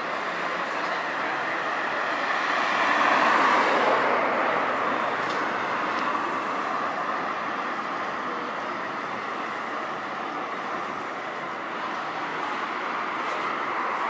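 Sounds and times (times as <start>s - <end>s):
bus engine pulling uphill: 0.0s - 14.0s.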